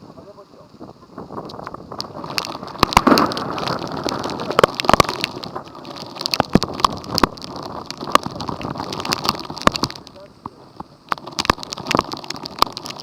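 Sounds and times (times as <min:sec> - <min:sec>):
heavy rain pelting down: 0:00.0 - 0:13.0
raindrops hitting microphone: 0:00.0 - 0:13.0.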